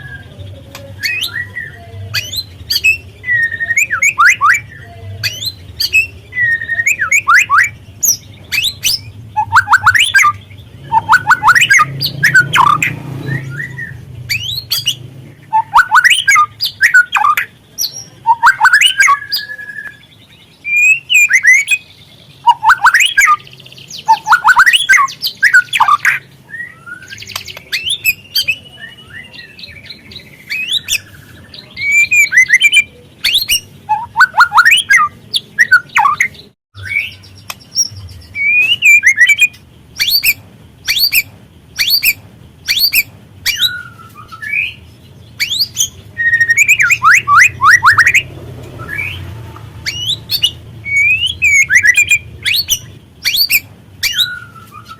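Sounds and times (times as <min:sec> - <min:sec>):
songbird chattering and whistling: 0:00.0 - 0:54.9.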